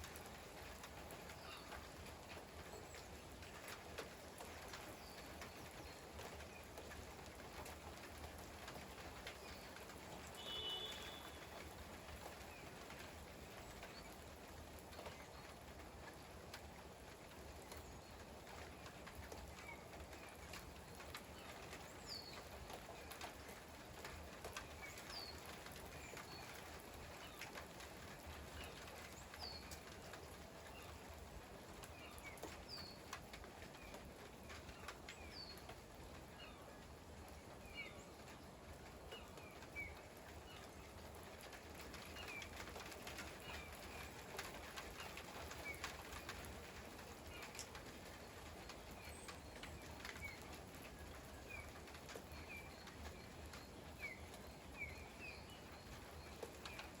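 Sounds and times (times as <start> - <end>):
faint rain: 0.0 - 57.0.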